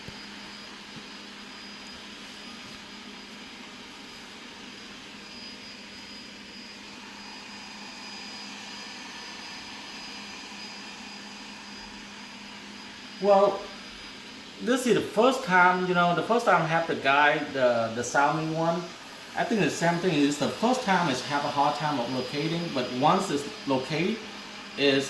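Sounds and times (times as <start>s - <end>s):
robot vacuum motor whirring: 0.0s - 25.0s.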